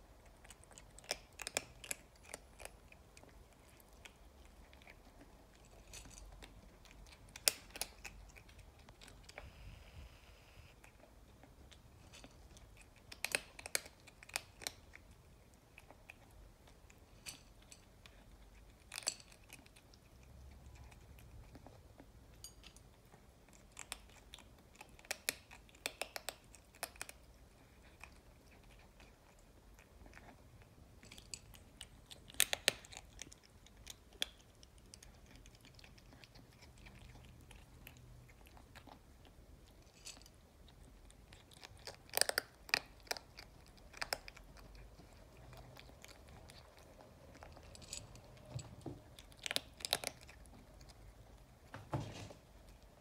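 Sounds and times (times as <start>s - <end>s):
kitten crunching dry kibble: 0.0s - 53.0s.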